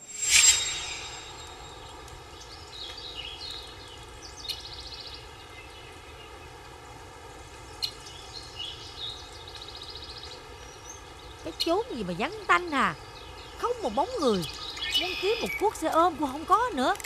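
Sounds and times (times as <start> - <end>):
birds chirping: 0.0 - 6.6, 7.5 - 17.0
outdoor background hiss: 0.0 - 17.0.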